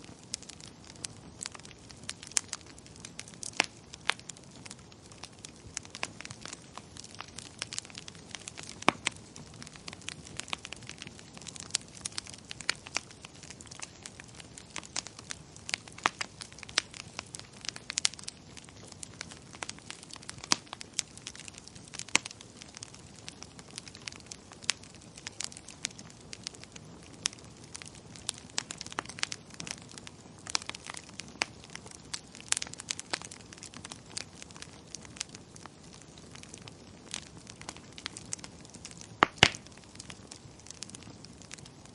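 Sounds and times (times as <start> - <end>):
low fire hiss: 0.0 - 41.9
wood fire pops and snaps: 0.0 - 41.9.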